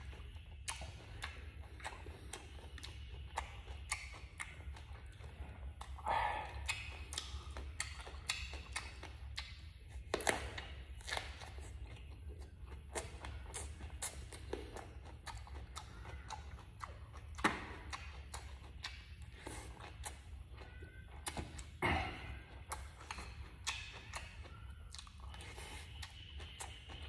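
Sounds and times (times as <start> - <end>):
chewing and crunching: 0.0 - 27.0
steady low hum: 0.0 - 27.0.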